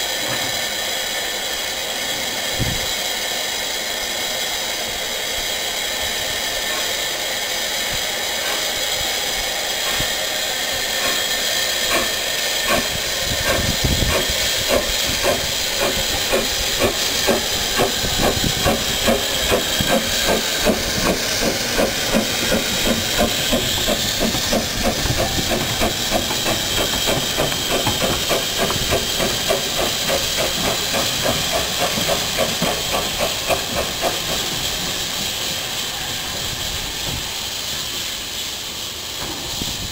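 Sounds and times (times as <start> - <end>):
steam hissing: 0.0 - 39.9
steam locomotive exhaust chuffs: 0.0 - 39.9.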